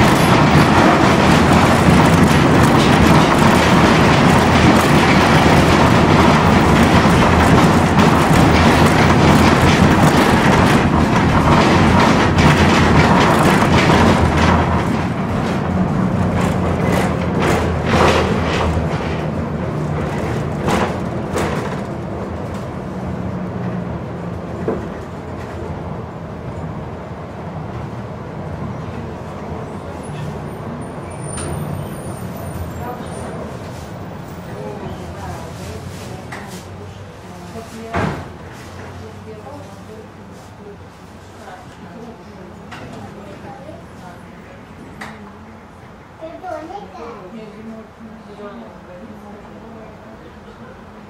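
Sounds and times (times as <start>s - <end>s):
tram wheels rumbling on rails: 0.0s - 51.0s.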